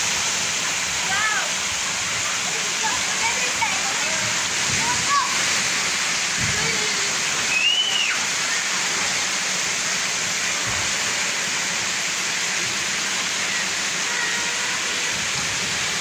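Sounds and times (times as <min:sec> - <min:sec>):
fountain water splashing into pool: 0:00.0 - 0:16.0.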